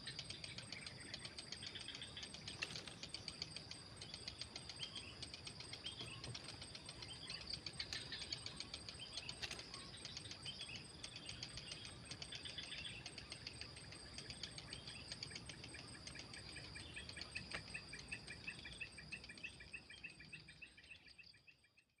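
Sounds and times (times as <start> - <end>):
insects chirping in pulses: 0.0 - 21.7.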